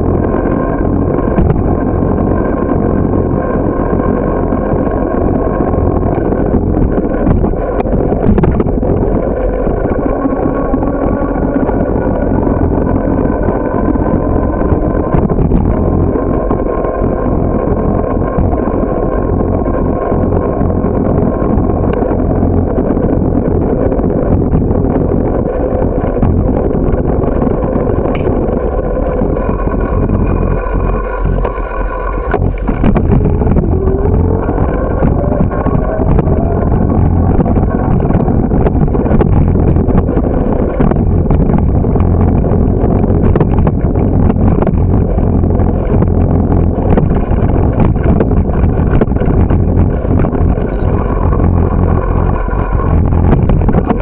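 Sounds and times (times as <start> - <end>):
bicycle rattling over pavement: 0.0 - 54.0
wind buffeting microphone: 0.0 - 54.0.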